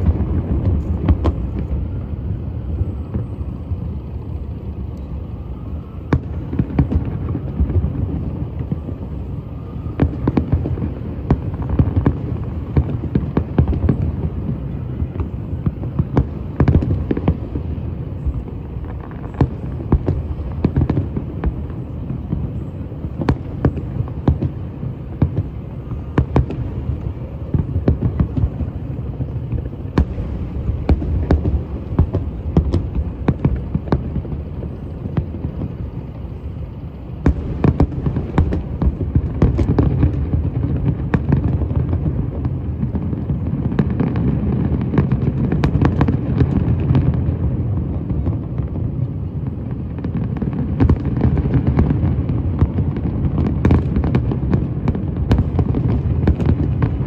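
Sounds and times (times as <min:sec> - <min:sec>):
rumble of firework booms: 0:00.0 - 0:04.0, 0:09.9 - 0:36.0, 0:37.1 - 0:57.0
fireworks cracks and pops: 0:00.0 - 0:05.2, 0:05.9 - 0:57.0.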